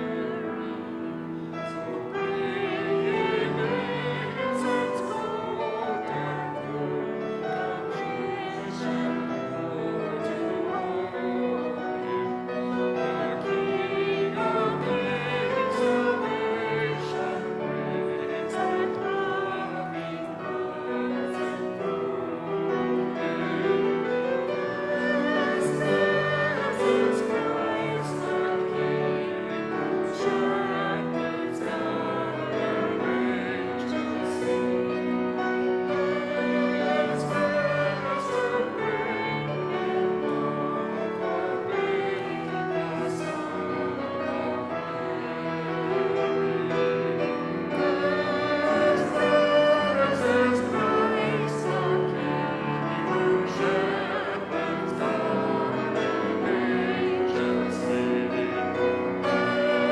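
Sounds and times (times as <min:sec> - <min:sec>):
choir singing: 0:00.0 - 0:59.9
piano accompaniment: 0:00.0 - 0:59.9.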